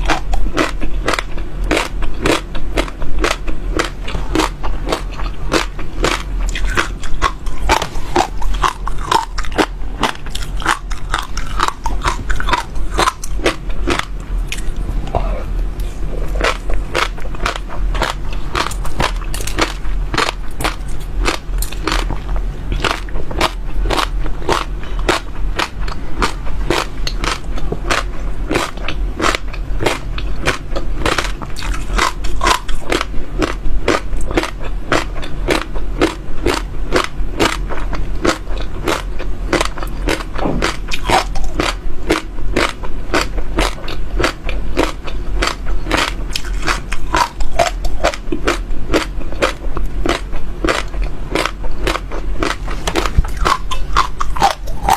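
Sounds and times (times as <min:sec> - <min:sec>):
chewing crunchy seeds: 0:00.0 - 0:54.9.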